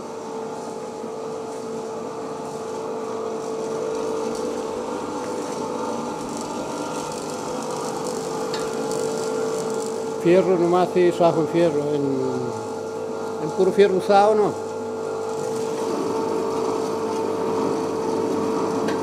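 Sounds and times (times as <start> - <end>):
electric motor humming: 1.5 - 19.0.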